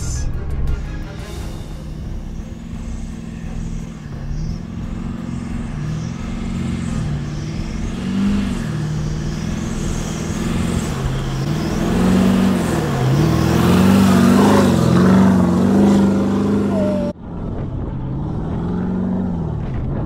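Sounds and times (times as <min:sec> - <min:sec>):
engine revving under load: 0:01.2 - 0:20.0.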